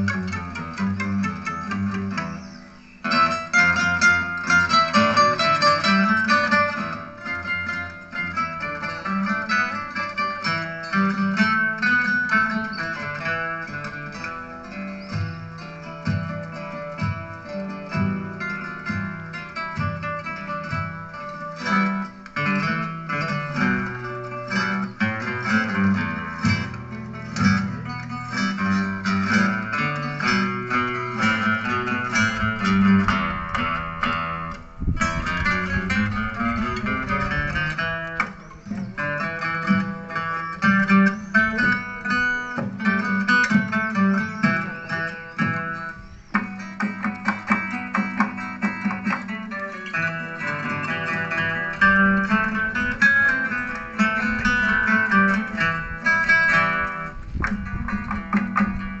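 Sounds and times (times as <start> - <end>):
classical guitar ensemble playing: 0.0 - 59.0.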